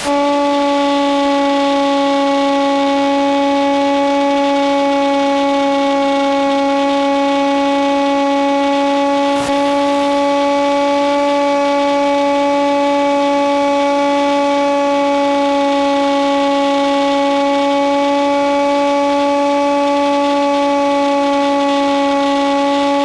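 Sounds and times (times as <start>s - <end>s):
low buzzing hum: 0.0s - 23.0s.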